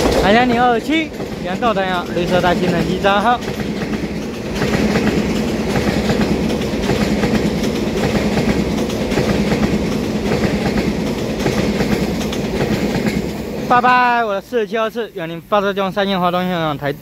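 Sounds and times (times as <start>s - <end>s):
train wheels clicking over rail joints: 0.0s - 14.5s
electric train passing: 0.0s - 17.0s.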